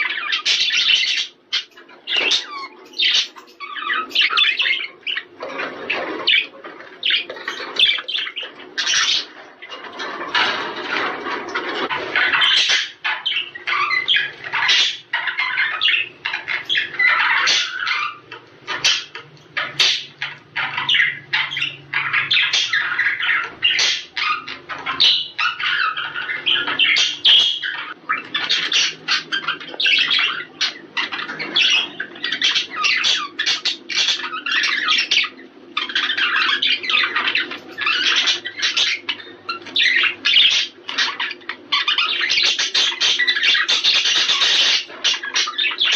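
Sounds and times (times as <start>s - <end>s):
budgerigars chattering and squawking: 0.0s - 45.9s.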